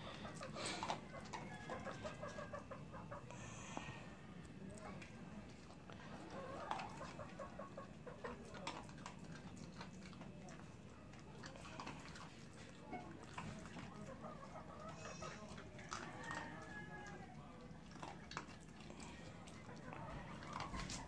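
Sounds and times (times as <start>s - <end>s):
dog chewing dry kibble: 0.0s - 2.5s, 4.7s - 21.0s
chickens clucking faintly: 0.0s - 21.0s.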